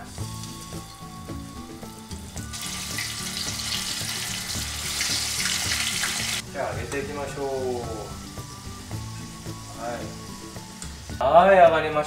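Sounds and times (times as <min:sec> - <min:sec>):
food deep-frying in oil: 0:00.0 - 0:11.2
light background music: 0:00.0 - 0:12.0.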